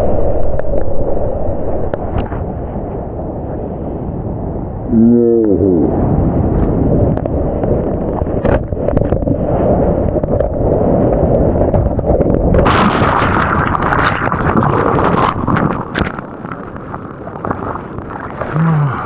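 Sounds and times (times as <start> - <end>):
surf rumble: 0.0 - 19.0
wind buffeting microphone: 0.0 - 19.0.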